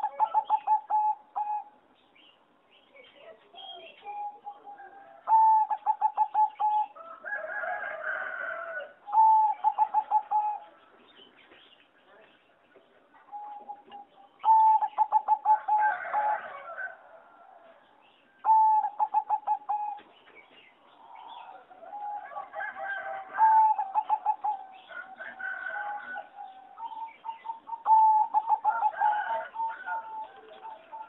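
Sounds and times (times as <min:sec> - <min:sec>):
dove cooing song: 0:00.0 - 0:01.9, 0:03.2 - 0:11.1, 0:13.2 - 0:31.0.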